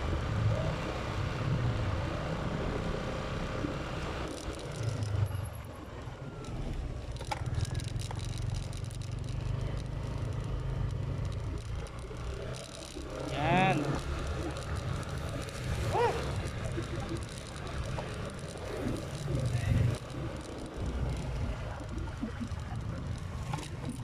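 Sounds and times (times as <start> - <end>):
motorcycle engine hum: 0.0 - 24.0
road noise: 0.0 - 24.0.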